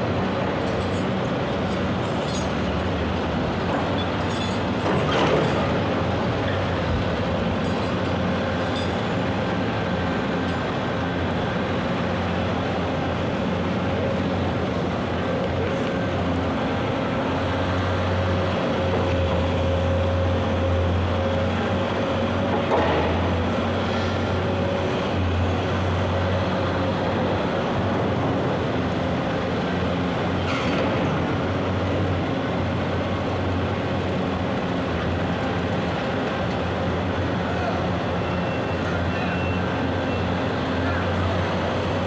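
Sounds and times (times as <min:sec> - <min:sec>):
excavator engine hum: 0:00.0 - 0:42.0.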